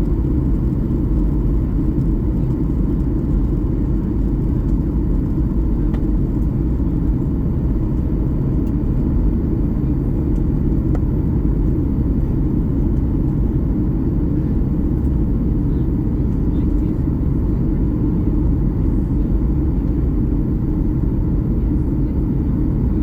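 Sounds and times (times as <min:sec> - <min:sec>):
airplane engines rumbling: 0:00.0 - 0:23.0.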